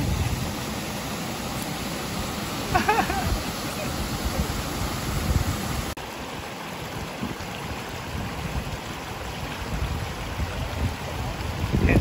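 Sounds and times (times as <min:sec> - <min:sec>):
stream running over rocks: 0:00.0 - 0:12.0
waterfall into rocky pool: 0:00.0 - 0:12.0.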